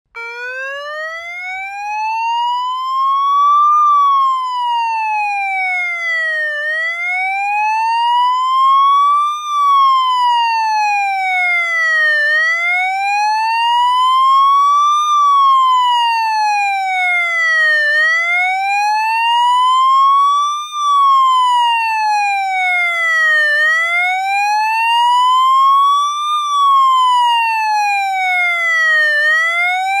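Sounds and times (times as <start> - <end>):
motorcycle siren wailing: 0.1 - 30.0.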